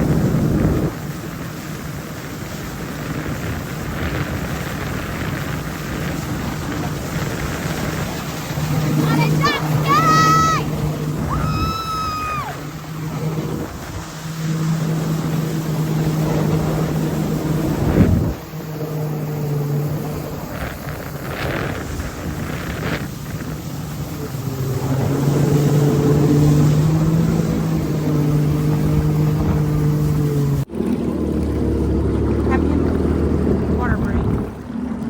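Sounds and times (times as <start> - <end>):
jet ski engine running: 0.0 - 35.0
wind buffeting microphone: 0.0 - 35.0.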